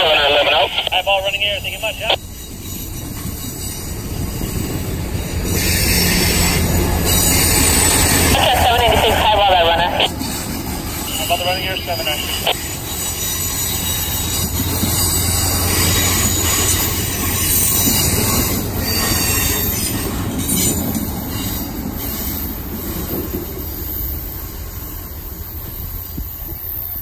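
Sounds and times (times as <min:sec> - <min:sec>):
low train rumble: 0:00.0 - 0:27.0
train wheels squealing on rails: 0:02.2 - 0:08.4, 0:10.1 - 0:27.0.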